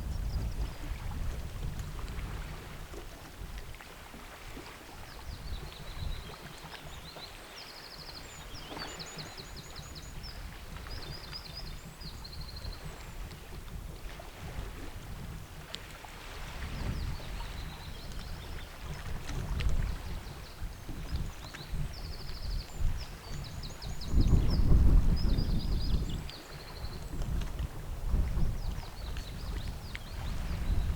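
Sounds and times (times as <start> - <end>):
wind buffeting microphone: 0.0 - 7.3, 8.1 - 30.9
small waves lapping: 0.6 - 24.1, 25.9 - 30.9.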